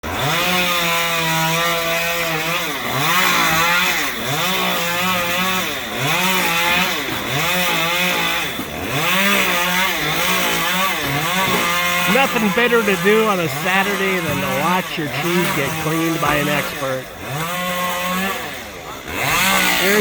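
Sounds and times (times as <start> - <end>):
chainsaw cutting: 0.0 - 20.0.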